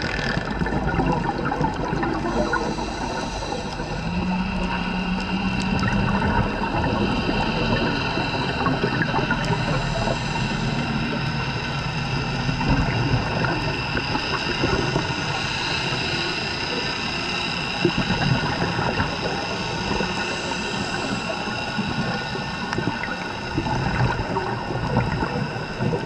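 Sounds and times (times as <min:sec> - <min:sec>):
boat motor running: 0:00.0 - 0:26.0
crackle: 0:00.0 - 0:26.0
water noise: 0:00.0 - 0:26.0.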